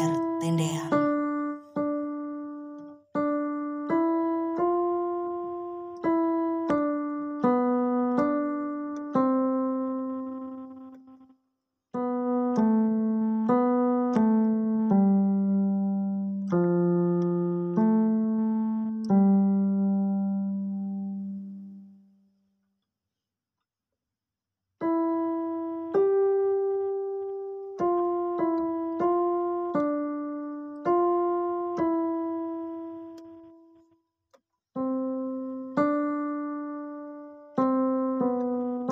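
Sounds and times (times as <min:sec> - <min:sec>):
slow solo piano melody: 0:00.0 - 0:11.3, 0:12.0 - 0:22.0, 0:24.8 - 0:33.9, 0:34.7 - 0:38.9.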